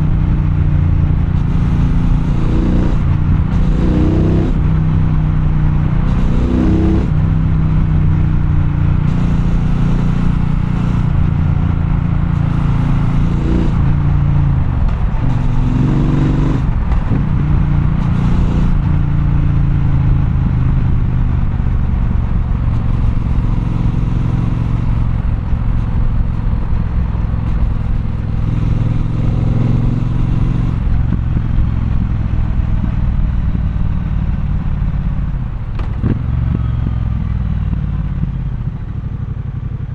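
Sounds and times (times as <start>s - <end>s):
city traffic: 0.0s - 39.9s
motorcycle engine revving: 0.0s - 39.9s.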